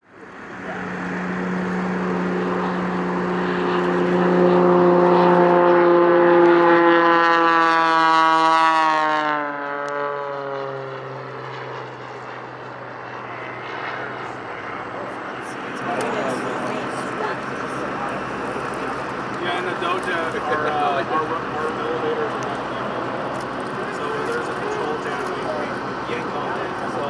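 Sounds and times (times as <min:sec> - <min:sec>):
aircraft flying past: 0:00.0 - 0:27.0.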